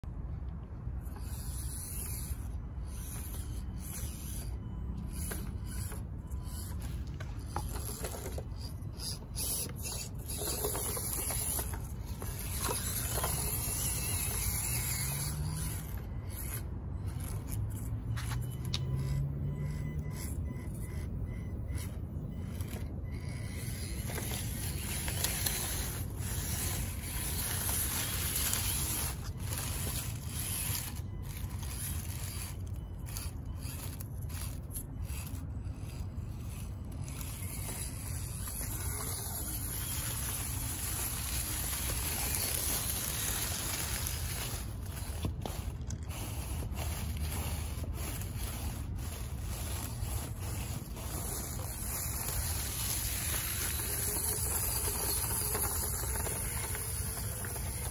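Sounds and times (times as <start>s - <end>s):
tyres clicking and scraping: 0.4s - 57.9s
small electric motor and gears: 1.0s - 57.9s.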